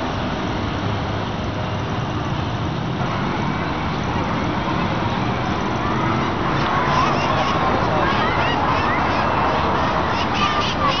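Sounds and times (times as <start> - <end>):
city traffic hum: 0.0 - 11.0.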